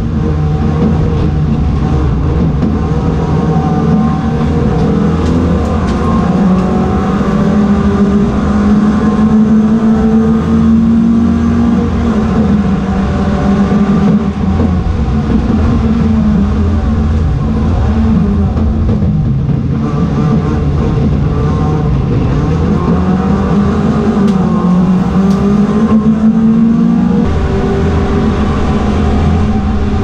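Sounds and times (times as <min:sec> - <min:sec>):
race car engine at high revs: 0:00.0 - 0:30.0
road noise: 0:00.0 - 0:30.0.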